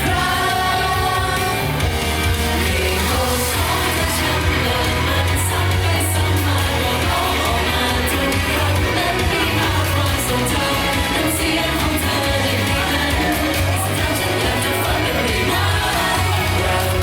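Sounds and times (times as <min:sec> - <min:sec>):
heavy bass line: 0:00.0 - 0:17.0
pop song with singing: 0:00.0 - 0:17.0.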